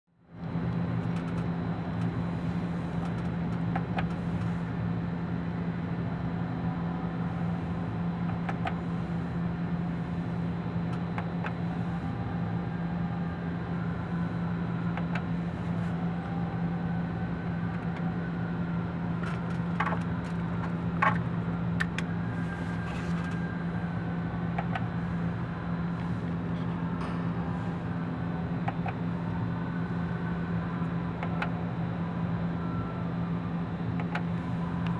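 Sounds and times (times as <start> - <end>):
low mechanical hum in truck cab: 0.2 - 34.9.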